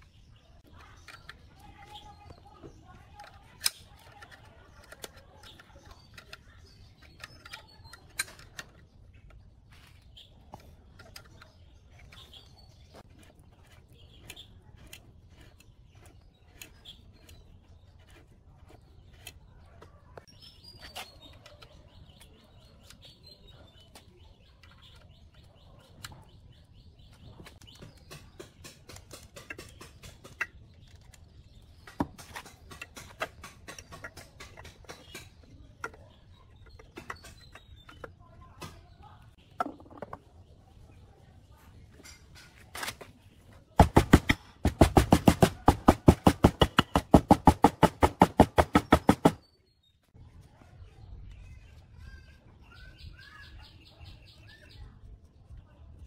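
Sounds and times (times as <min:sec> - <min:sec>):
birds chirping: 0:00.0 - 0:55.8.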